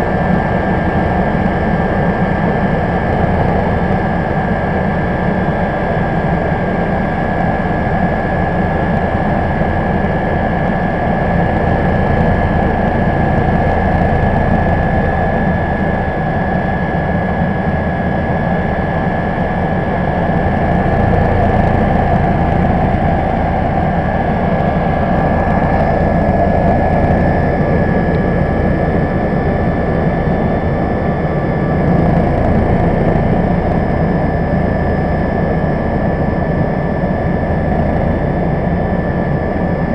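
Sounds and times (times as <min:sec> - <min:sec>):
helicopter cabin noise: 0:00.0 - 0:39.9.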